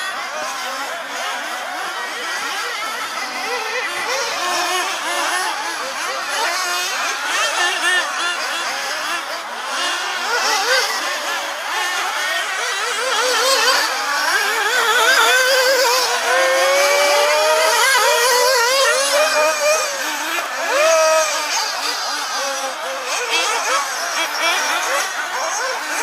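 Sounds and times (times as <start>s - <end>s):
rc buggy motors whining: 0.0s - 26.0s.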